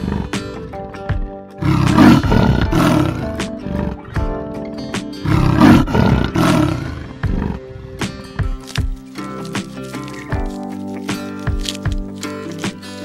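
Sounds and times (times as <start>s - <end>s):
leopard growling: 0.0s - 0.9s, 1.6s - 4.2s, 5.1s - 12.8s
background music: 0.0s - 13.0s.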